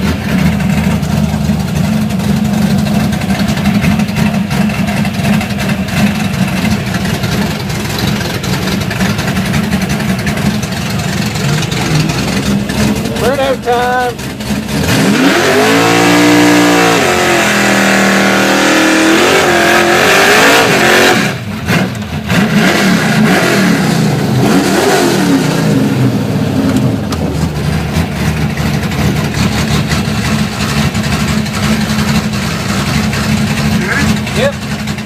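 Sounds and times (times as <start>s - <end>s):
car engine revving hard: 0.0s - 35.0s.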